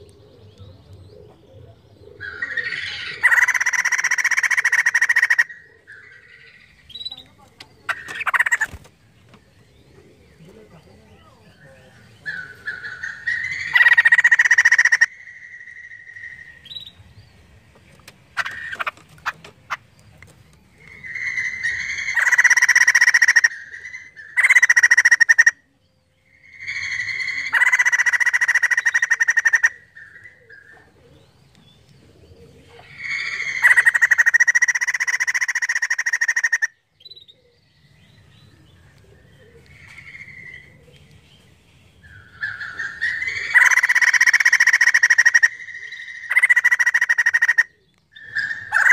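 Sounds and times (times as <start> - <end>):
bird cackling chatter: 0.0 - 37.6, 38.2 - 48.9.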